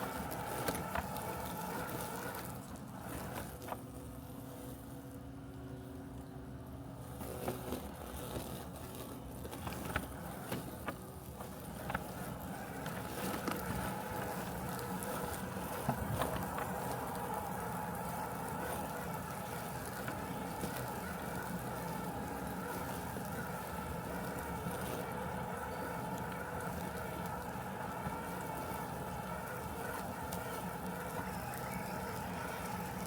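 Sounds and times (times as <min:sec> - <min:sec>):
robotic lawn mower humming: 0:00.0 - 0:33.0.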